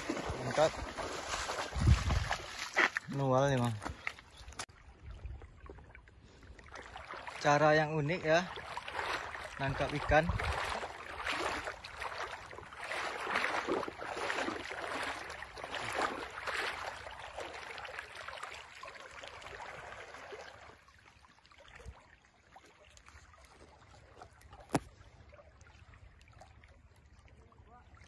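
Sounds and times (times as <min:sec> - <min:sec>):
faint water trickle: 0:00.0 - 0:28.0
river water splashing around wader: 0:00.0 - 0:28.0.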